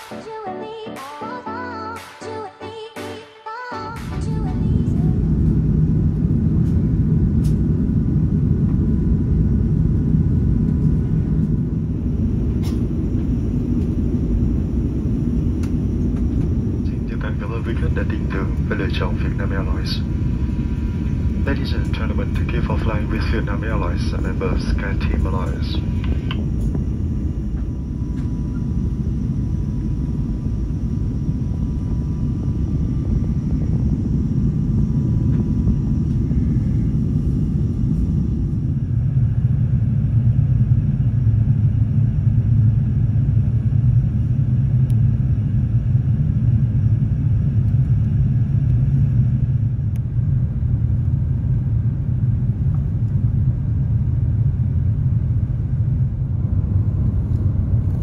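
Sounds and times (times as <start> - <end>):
airplane cabin rumble: 3.9 - 58.0.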